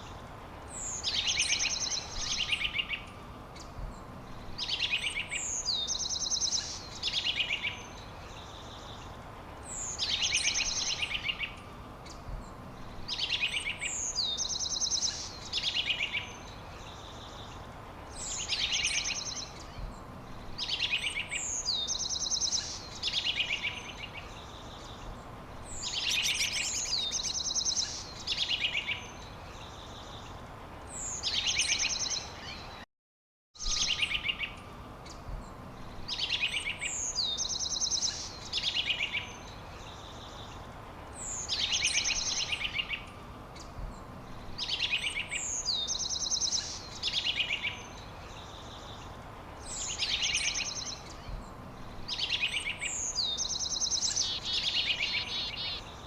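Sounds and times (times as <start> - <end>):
songbird singing: 0.0 - 32.8, 33.6 - 56.0.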